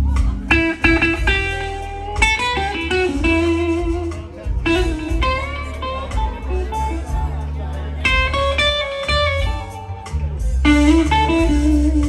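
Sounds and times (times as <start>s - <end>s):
bass guitar: 0.0s - 12.0s
lead electric guitar: 0.0s - 12.0s
live blues band: 0.0s - 12.0s.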